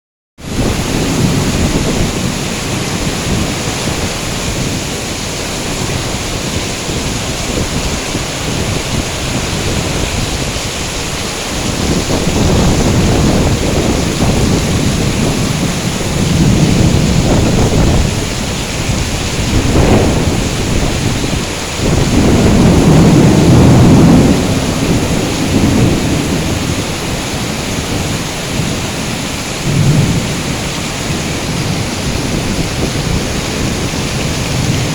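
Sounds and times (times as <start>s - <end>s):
heavy rain pouring: 0.4s - 34.9s
thunder rumbling: 0.4s - 34.9s.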